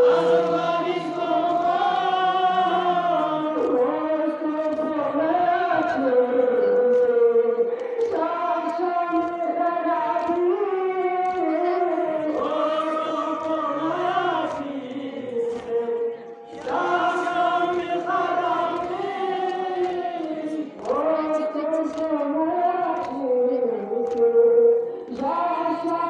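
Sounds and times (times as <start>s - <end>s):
many voices chanting a lament: 0.0s - 26.0s.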